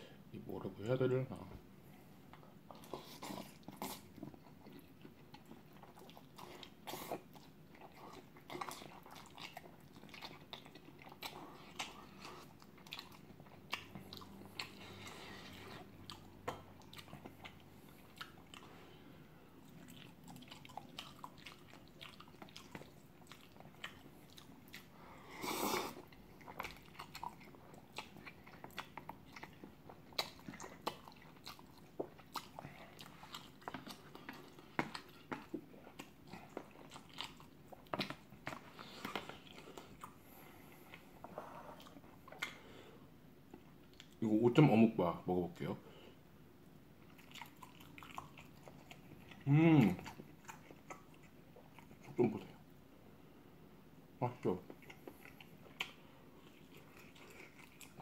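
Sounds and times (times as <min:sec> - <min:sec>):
person chewing with wet clicks: 0:02.3 - 0:25.1, 0:25.9 - 0:44.2, 0:46.6 - 0:52.7, 0:54.4 - 0:58.0.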